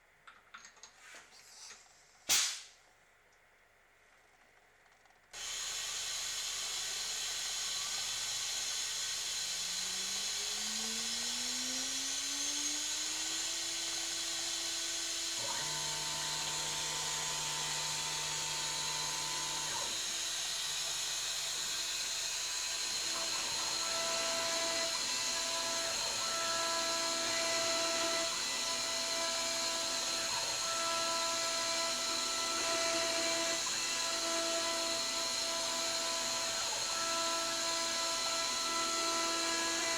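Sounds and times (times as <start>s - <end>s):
milling machine spindle whine: 5.4s - 39.9s.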